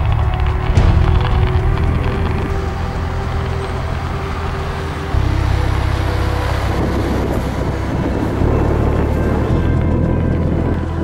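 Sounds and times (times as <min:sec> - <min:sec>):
deep bass drone music: 0:00.0 - 0:11.0.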